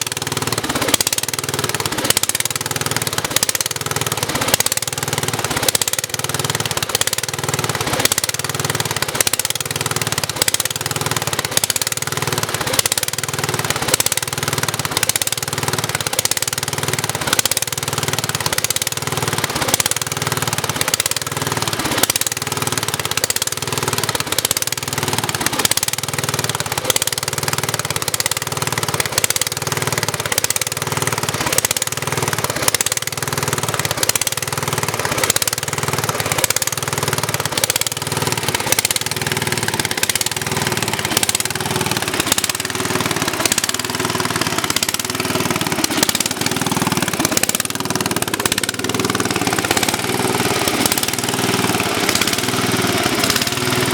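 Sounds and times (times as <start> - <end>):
garden tractor engine running: 0.0 - 53.9.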